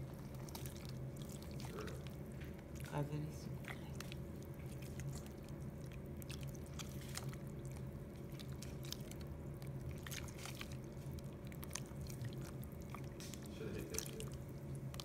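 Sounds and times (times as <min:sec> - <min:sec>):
steady low hum: 0:00.0 - 0:15.0
wet squishing of bread: 0:00.0 - 0:15.0.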